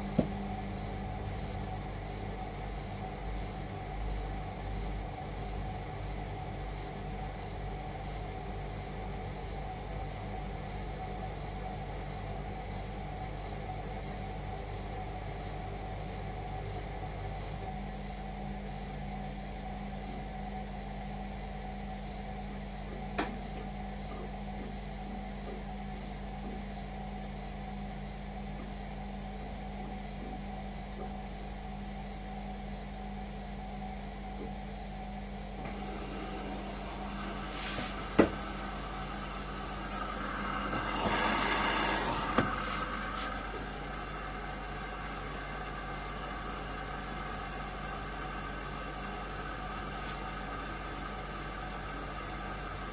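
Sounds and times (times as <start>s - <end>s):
washing machine humming: 0.0s - 52.9s.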